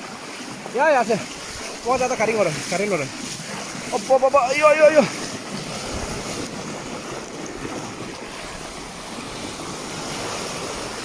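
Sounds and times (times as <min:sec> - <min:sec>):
flooded river rushing: 0:00.0 - 0:11.0.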